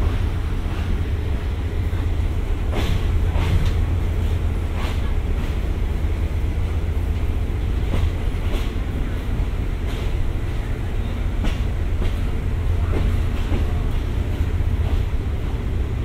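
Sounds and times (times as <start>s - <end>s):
train low rumble: 0.0s - 16.0s.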